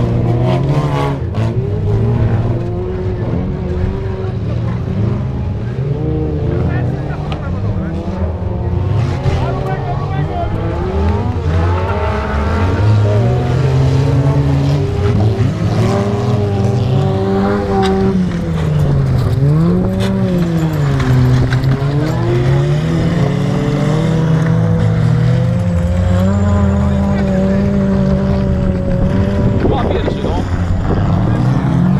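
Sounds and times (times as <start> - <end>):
race car engines revving: 0.0 - 31.9.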